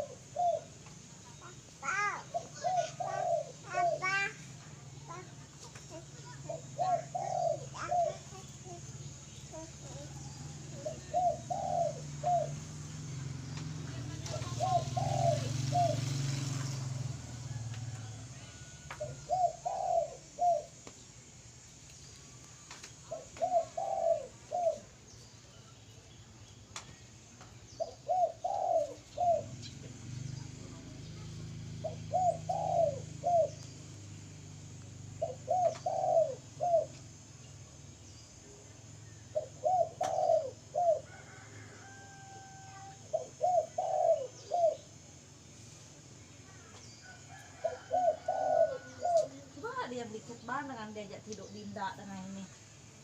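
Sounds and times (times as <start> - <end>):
dove cooing: 0.0 - 20.9, 23.0 - 25.0, 27.7 - 34.0, 35.0 - 37.2, 39.1 - 45.1, 47.0 - 52.6.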